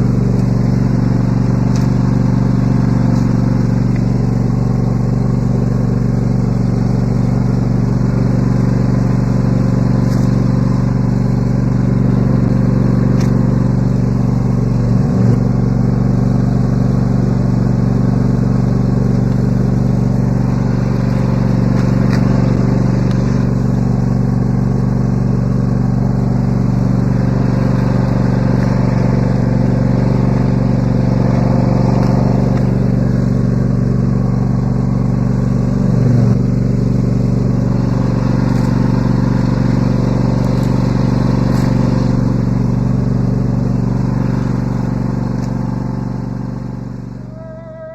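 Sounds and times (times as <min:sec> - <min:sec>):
riding lawn mower engine running: 0:00.0 - 0:47.9.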